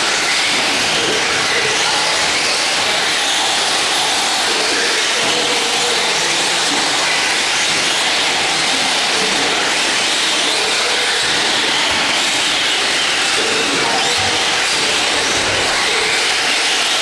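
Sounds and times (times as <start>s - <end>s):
radio-controlled trucks motors whining: 0.0s - 17.0s.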